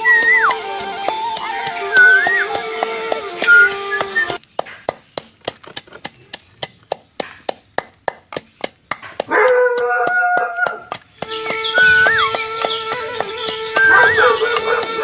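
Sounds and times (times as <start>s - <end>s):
pestle pounding in wooden mortar: 0.0s - 15.0s.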